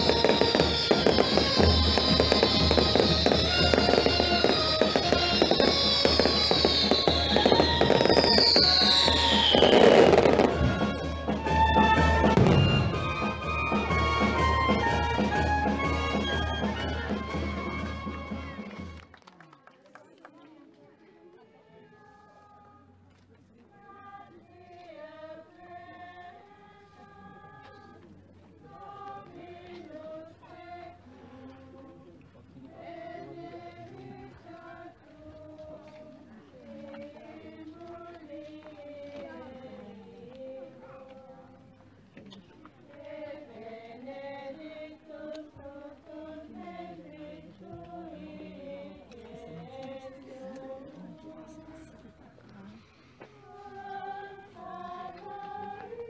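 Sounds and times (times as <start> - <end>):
choir singing a slow hymn: 0.0 - 13.3, 21.4 - 56.0.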